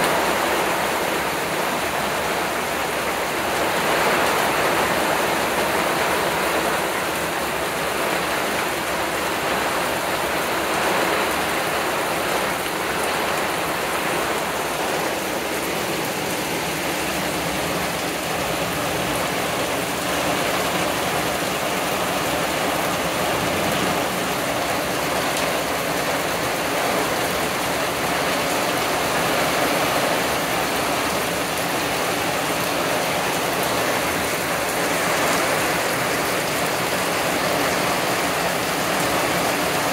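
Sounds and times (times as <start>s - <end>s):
heavy rain pouring through trees: 0.0s - 39.9s.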